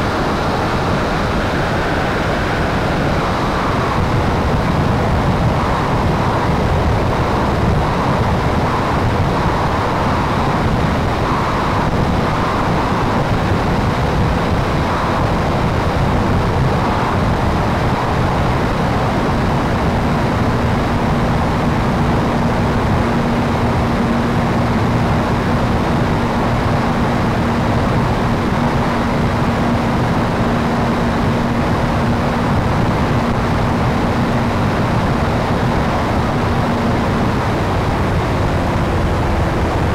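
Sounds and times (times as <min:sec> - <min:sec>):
propeller plane engine: 0:00.0 - 0:39.9
steady hum: 0:00.0 - 0:39.9
wind over microphone: 0:00.0 - 0:39.9.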